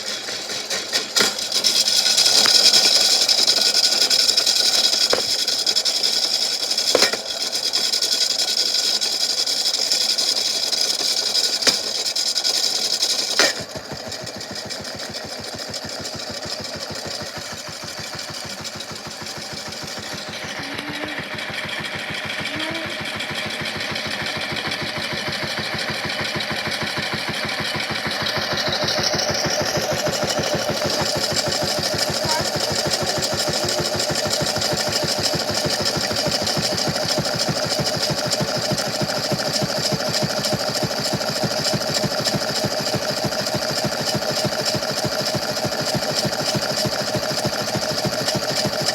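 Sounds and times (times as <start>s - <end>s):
toy washing machine rattling whir: 0.0s - 48.9s.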